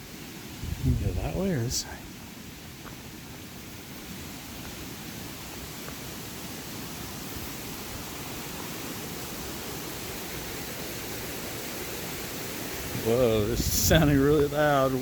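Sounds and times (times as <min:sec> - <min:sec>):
waterfall rushing: 0:01.2 - 0:15.0.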